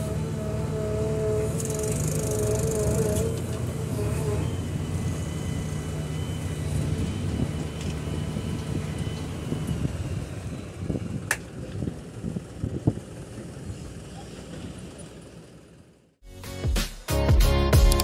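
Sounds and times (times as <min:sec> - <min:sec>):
diesel engine running: 0:00.0 - 0:16.6.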